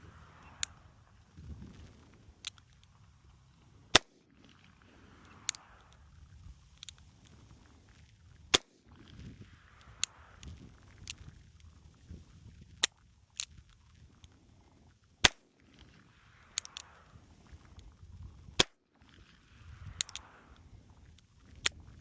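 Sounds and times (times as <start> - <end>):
faint cracks: 0.0 - 22.0.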